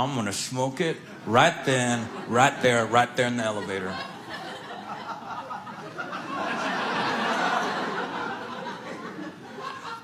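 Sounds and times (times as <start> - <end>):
audience laughing: 1.0 - 10.0.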